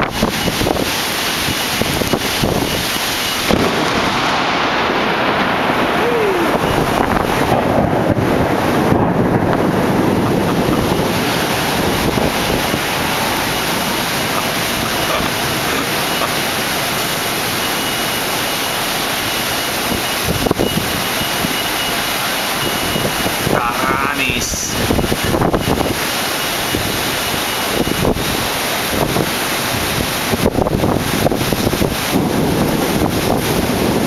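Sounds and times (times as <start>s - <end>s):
heavy rain pouring with wind: 0.0s - 34.0s.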